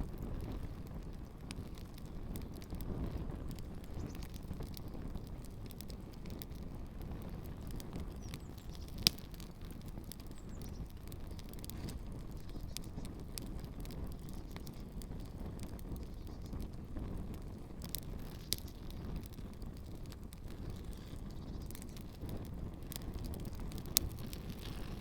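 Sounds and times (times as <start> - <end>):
fire crackles and pops: 0.0 - 25.0
low fire rumble: 0.0 - 25.0.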